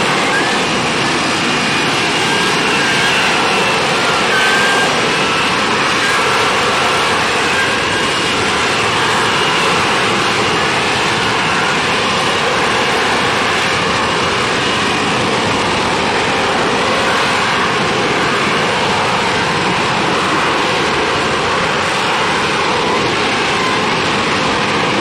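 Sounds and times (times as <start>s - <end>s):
faint whining tones: 0.0s - 24.1s
airplane engine noise: 0.0s - 25.0s.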